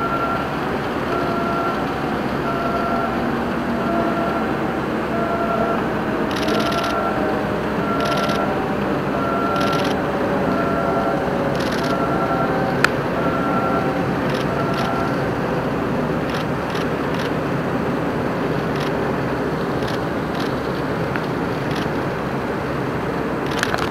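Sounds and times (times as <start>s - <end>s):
waterfront hiss and rumble: 0.0s - 23.9s.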